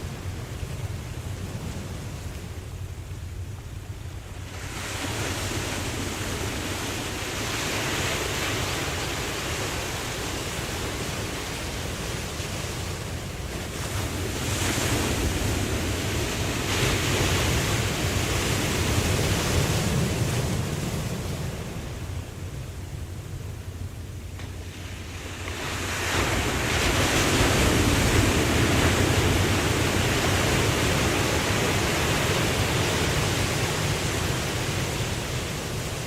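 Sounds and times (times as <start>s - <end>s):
ocean waves washing in: 0.0s - 36.0s.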